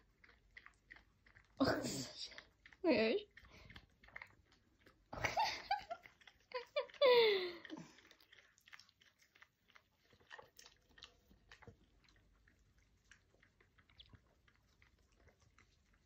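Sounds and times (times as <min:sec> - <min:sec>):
dog licking paper cup: 0:00.0 - 0:16.0.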